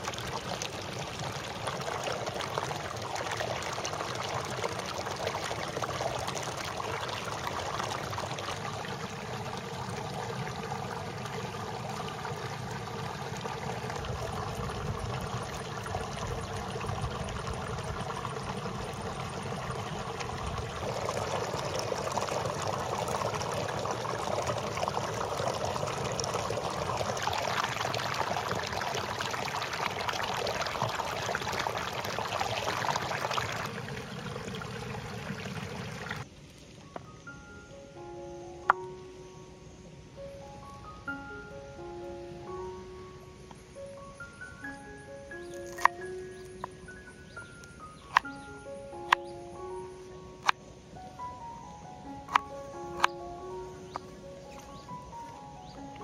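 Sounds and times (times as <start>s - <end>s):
water trickling: 0.0s - 37.5s, 44.8s - 50.6s, 51.2s - 56.0s.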